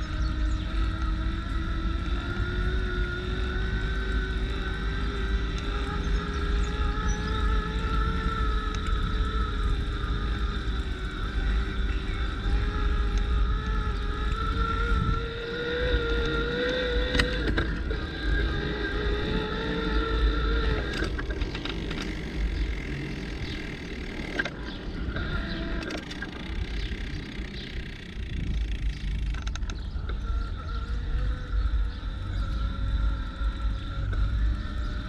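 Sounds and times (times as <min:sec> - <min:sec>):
bicycle tyre noise: 0:00.0 - 0:35.0
steady whine: 0:00.0 - 0:35.0
wind rumble on microphone: 0:00.0 - 0:35.0.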